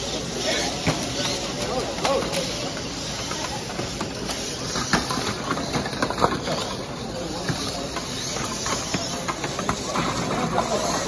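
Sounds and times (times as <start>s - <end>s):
room noise: 0.0s - 11.0s.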